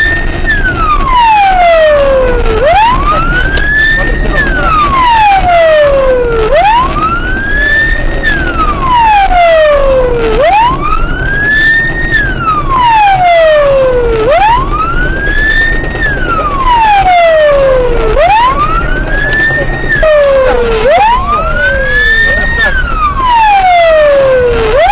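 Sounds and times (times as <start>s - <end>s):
car road and engine noise: 0.0s - 24.9s
police siren wailing: 0.0s - 24.9s.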